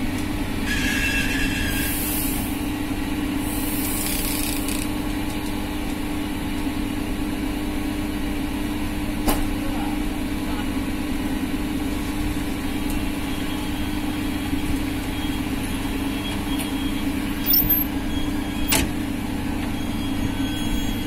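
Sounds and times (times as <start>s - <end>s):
electric trains humming: 0.0s - 21.0s.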